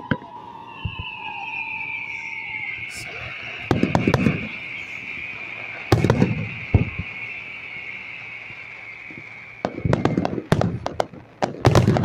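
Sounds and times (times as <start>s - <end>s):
firework bangs and crackles: 0.0s - 12.0s
firework hiss: 0.0s - 12.0s.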